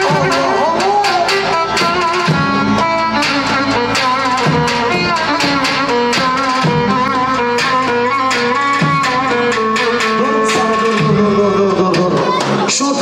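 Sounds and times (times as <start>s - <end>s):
wavering melody: 0.0s - 12.5s
drum beating steadily: 0.0s - 13.0s.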